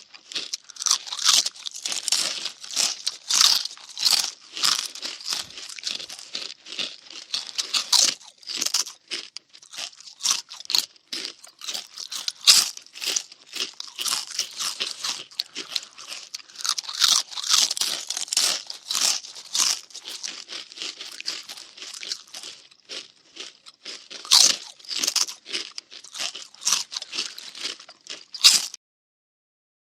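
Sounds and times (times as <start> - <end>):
cartoon crunchy munching: 0.0 - 28.8.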